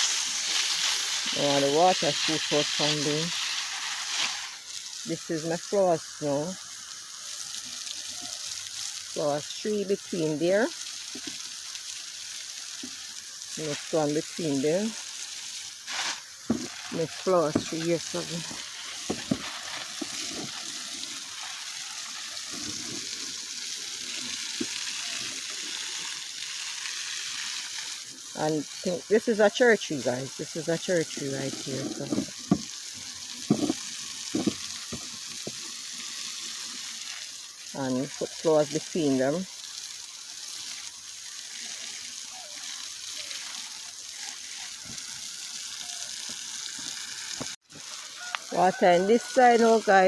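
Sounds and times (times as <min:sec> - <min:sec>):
garden hose spraying water: 0:00.0 - 0:50.0.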